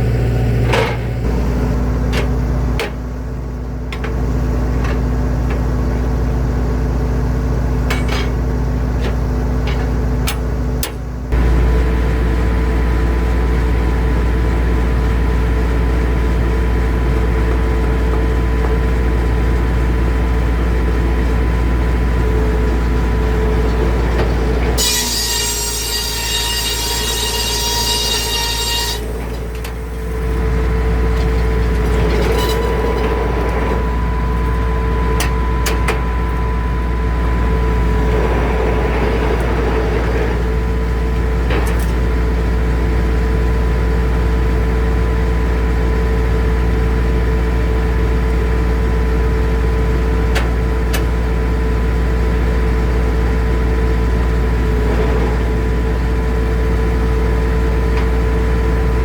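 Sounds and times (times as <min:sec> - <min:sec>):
sawmill machine hum: 0:00.0 - 0:59.0.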